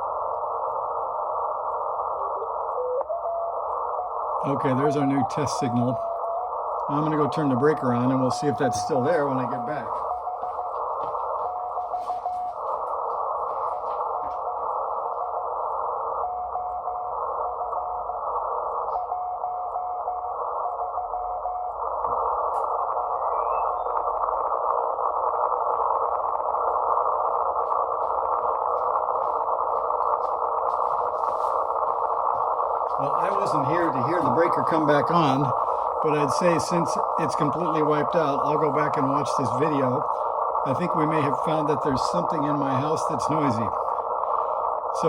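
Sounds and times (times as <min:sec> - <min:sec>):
radio static hiss: 0:00.0 - 0:45.0
weak steady radio tone: 0:00.0 - 0:45.0.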